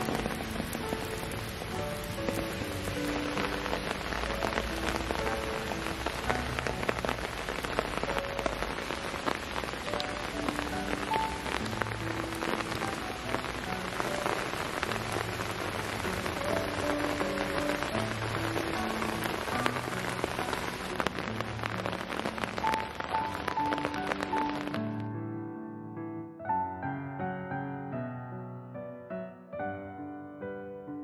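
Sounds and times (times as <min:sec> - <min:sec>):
rain pattering: 0:00.0 - 0:25.1
soft music with held notes: 0:00.0 - 0:31.0.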